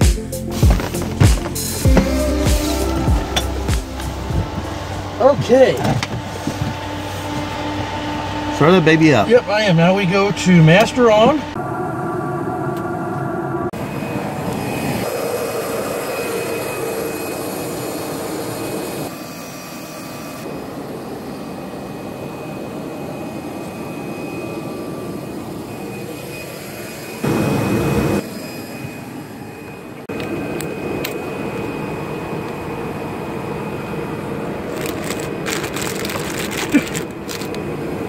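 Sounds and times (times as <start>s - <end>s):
jet engine with high whine: 2.6s - 38.0s.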